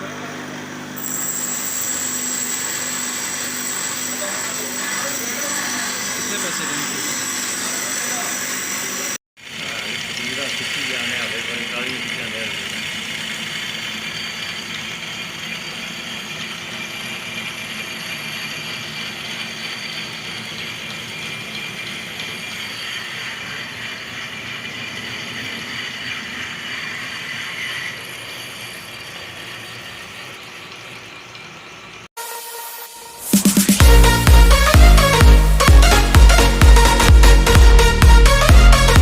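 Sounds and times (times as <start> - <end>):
lathe whirring: 0.0 - 32.1.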